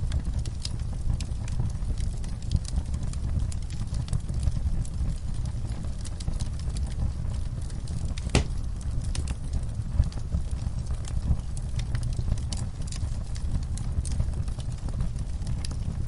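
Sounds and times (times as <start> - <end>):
fire pops and snaps: 0.0 - 16.0
fireplace fire crackling: 0.0 - 16.0.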